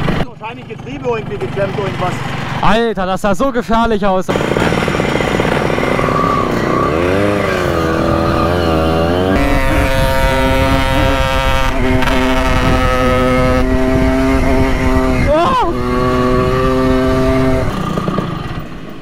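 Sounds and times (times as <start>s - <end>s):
moped engine revving: 0.0s - 2.8s, 4.3s - 19.0s.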